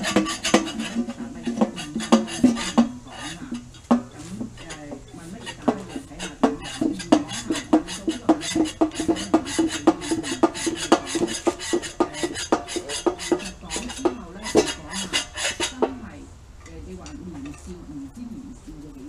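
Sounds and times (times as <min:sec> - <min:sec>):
hand pump clicking: 0:00.0 - 0:16.0.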